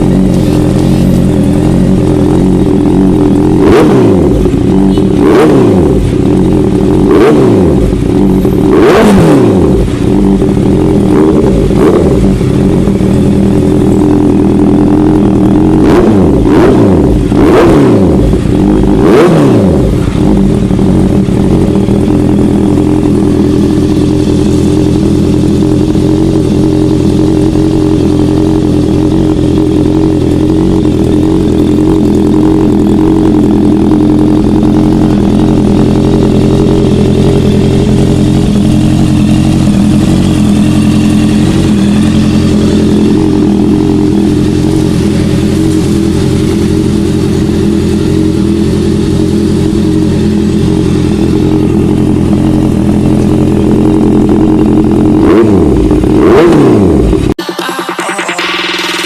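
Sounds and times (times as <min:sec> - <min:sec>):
motorcycle engine revving and idling: 0:00.0 - 0:59.0.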